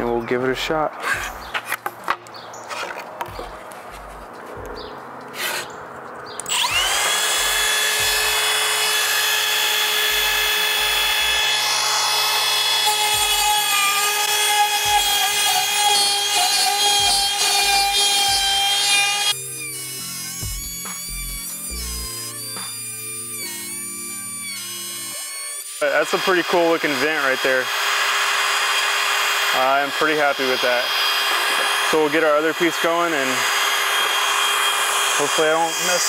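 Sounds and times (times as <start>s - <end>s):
router motor whine: 6.4s - 36.0s.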